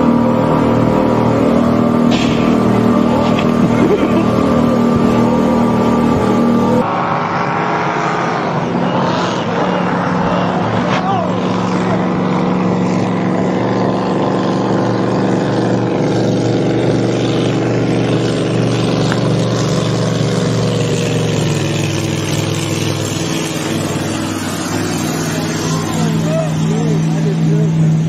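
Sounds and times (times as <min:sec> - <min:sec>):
racing boat engine running: 0:00.0 - 0:28.0.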